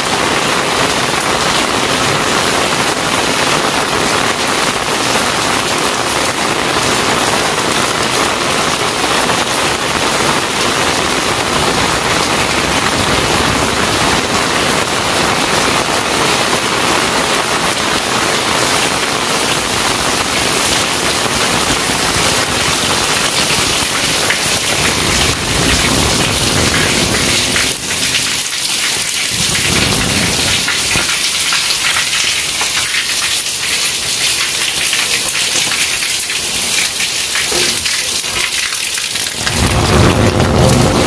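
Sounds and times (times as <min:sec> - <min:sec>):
heavy rain on pavement: 0:00.0 - 0:41.0
thunder rumbling: 0:00.3 - 0:33.5, 0:37.5 - 0:41.0.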